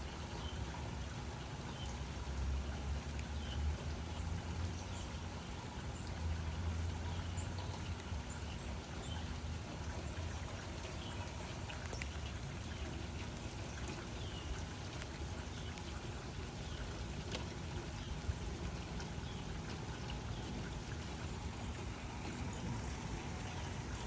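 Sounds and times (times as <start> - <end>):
raindrops ticking: 0.1 - 24.0
rain falling: 3.9 - 24.0.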